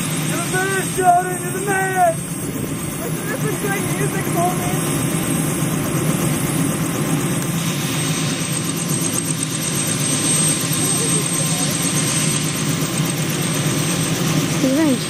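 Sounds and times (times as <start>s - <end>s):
helicopter engine with high whine: 0.0s - 15.0s
helicopter rotor beat: 0.0s - 15.0s.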